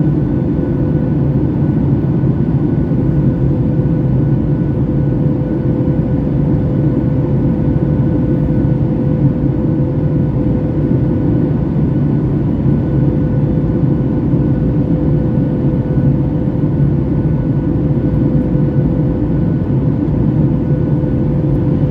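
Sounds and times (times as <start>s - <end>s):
jet engine cabin rumble: 0.0s - 21.9s.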